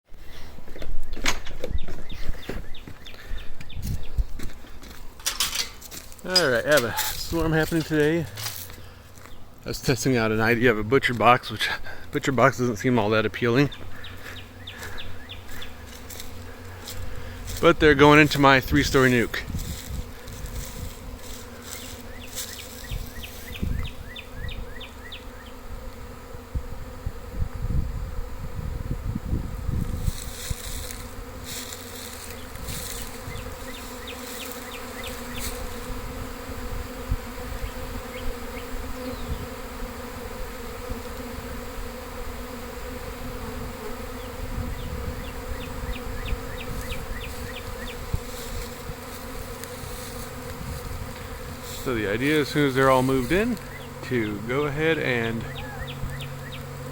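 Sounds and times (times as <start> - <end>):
bee swarm buzzing: 0.1 - 56.9.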